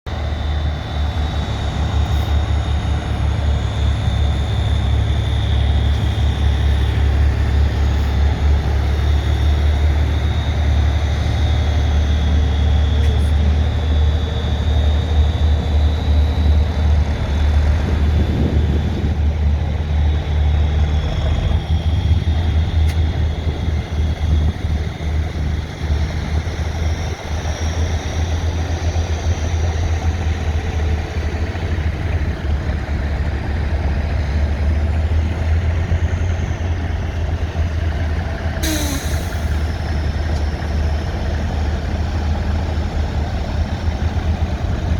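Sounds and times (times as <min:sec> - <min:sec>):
truck engine rumbling: 0:00.1 - 0:44.9.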